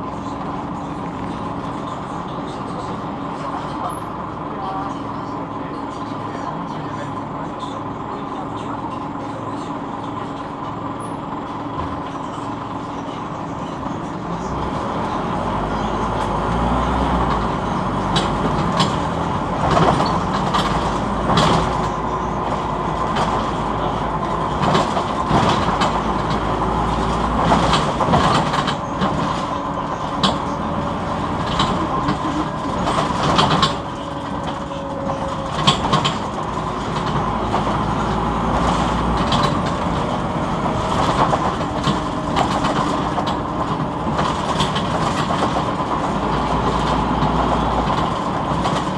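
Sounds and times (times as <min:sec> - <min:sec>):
bus body rattling and knocking: 0:00.0 - 0:48.9
bus engine humming: 0:00.0 - 0:48.9.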